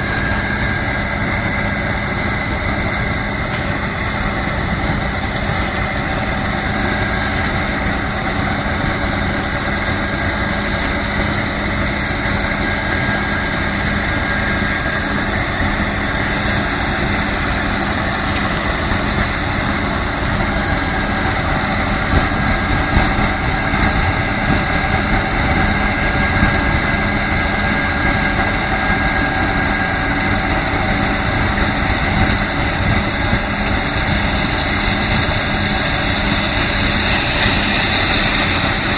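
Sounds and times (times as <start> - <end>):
engine drone: 0.0 - 38.9
machinery whining tones: 0.0 - 38.9.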